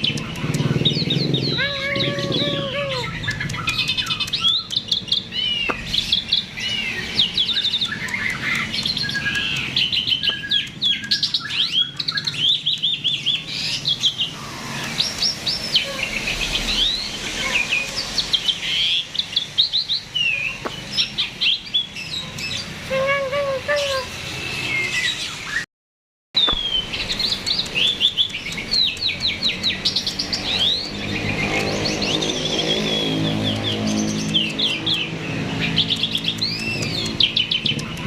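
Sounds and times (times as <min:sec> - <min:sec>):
starling singing: 0:00.0 - 0:25.6, 0:26.4 - 0:38.0.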